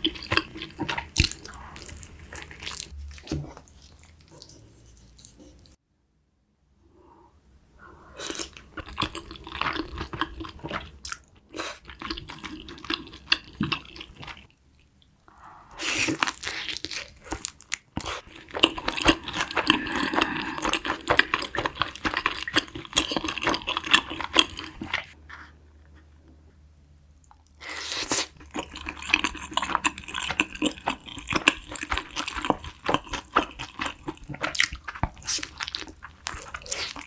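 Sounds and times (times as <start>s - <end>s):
crunchy chewing of food: 0.0s - 5.8s, 8.2s - 15.0s, 15.8s - 26.0s, 27.2s - 37.0s.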